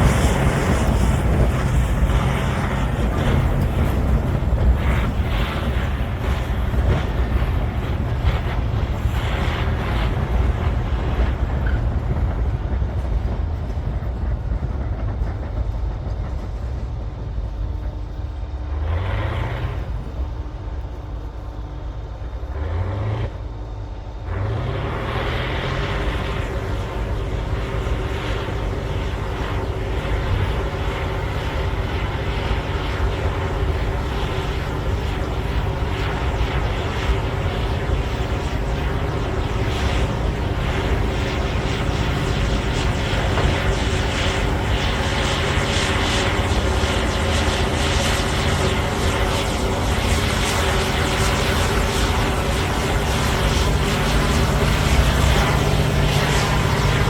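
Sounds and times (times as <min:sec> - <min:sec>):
bulldozer diesel engine under load: 0:00.0 - 0:18.0, 0:18.7 - 0:57.0.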